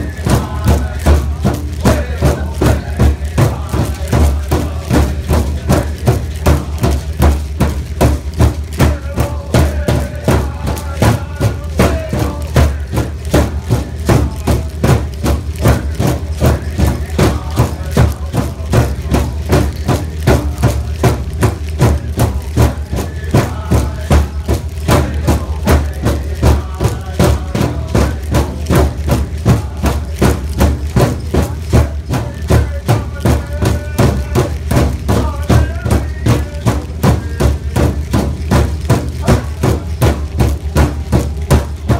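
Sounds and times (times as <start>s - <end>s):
large drum beating: 0.0s - 41.9s
people singing: 0.0s - 41.9s.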